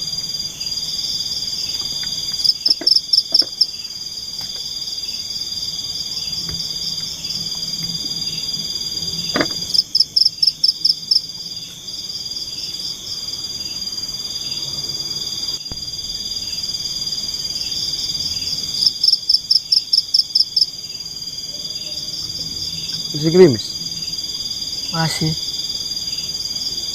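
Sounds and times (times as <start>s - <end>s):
insects trilling: 0.0s - 26.9s
pulsed insect chirping: 0.0s - 26.9s.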